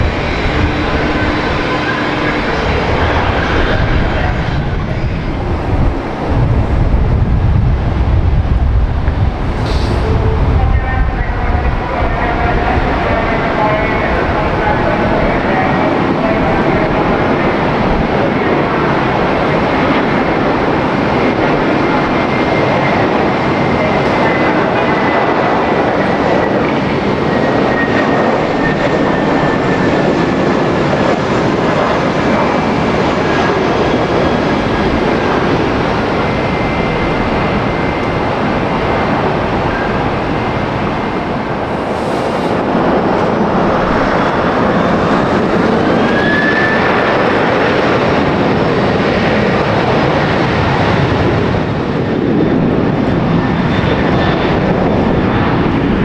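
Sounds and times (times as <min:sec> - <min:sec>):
falling engine whine: 0:00.0 - 0:56.0
jet engines running: 0:00.0 - 0:56.0.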